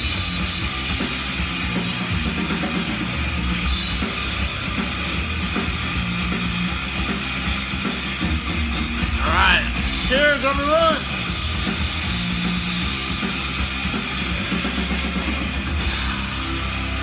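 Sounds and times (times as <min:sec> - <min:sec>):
heavy rock instrumental record: 0:00.0 - 0:17.0.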